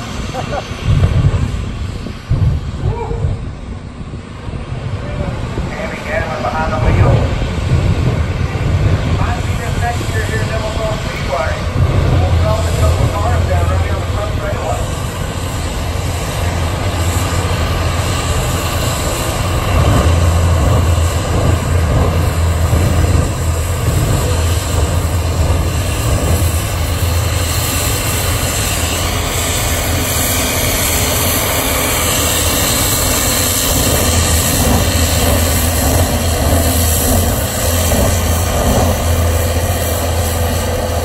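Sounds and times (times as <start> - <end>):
jet engine running: 0.0 - 41.0.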